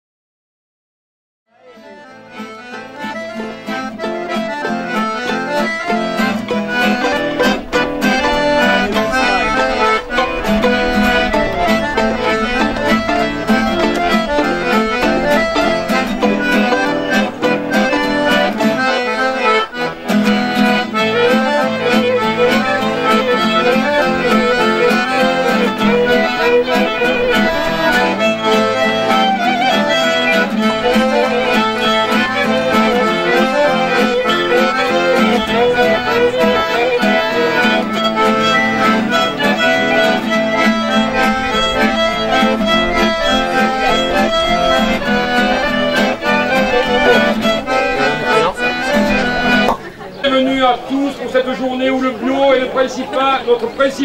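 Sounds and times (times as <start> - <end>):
accordion: 1.5 - 54.0
folk band playing: 1.6 - 54.0.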